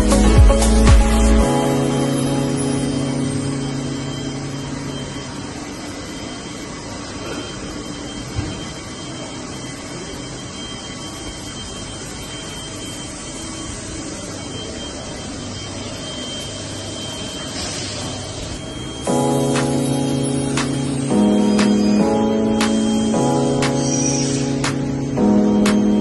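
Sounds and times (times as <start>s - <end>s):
factory machinery running: 0.0s - 26.0s
thin high whine: 0.0s - 26.0s.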